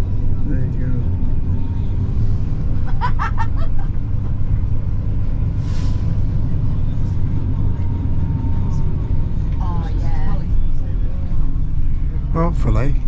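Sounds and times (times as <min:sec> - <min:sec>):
coach engine and tyres rumbling: 0:00.0 - 0:13.0.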